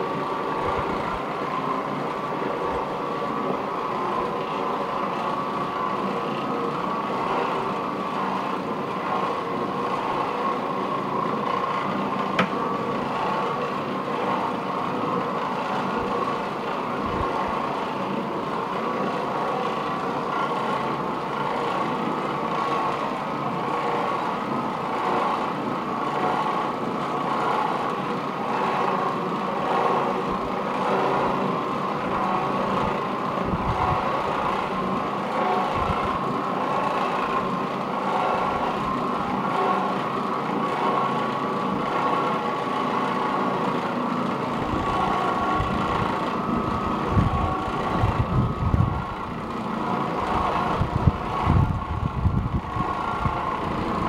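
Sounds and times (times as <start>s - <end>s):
floor machine motor hum: 0.0s - 54.0s.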